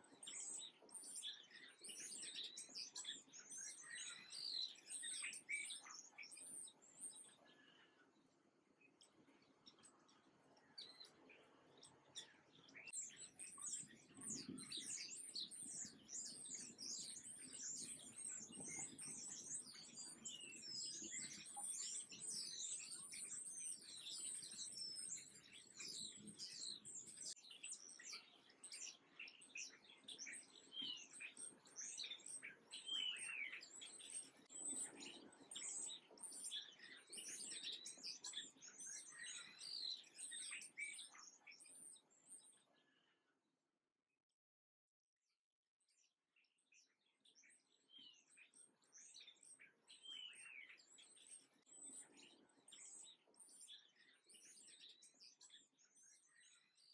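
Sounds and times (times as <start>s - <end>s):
songbirds chirping: 0.0s - 43.3s, 45.8s - 56.9s.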